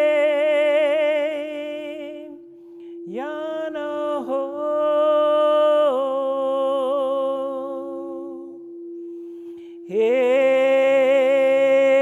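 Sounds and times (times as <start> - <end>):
person chanting sung notes: 0.0 - 12.0.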